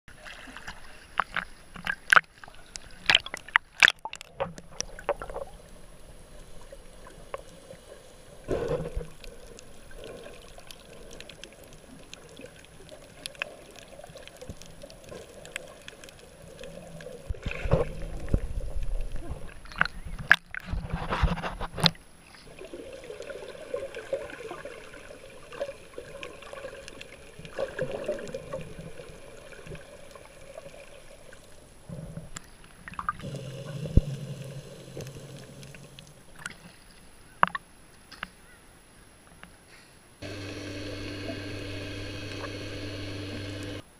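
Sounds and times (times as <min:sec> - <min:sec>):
underwater sloshing and bubbling: 0:00.1 - 0:38.3.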